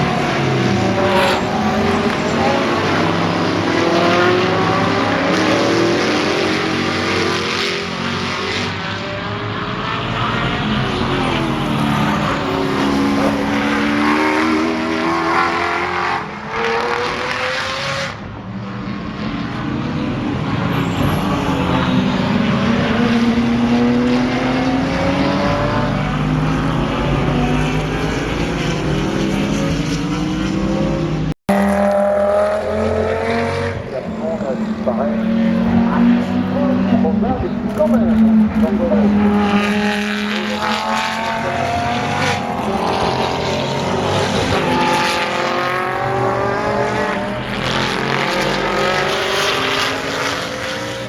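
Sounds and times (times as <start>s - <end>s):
racing car engines at full throttle: 0.0s - 51.0s.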